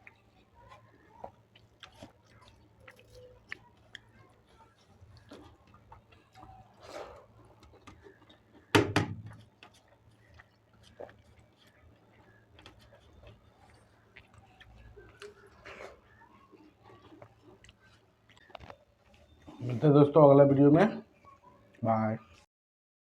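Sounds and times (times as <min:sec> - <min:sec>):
soft chewing and mouth clicks: 0:00.0 - 0:22.5.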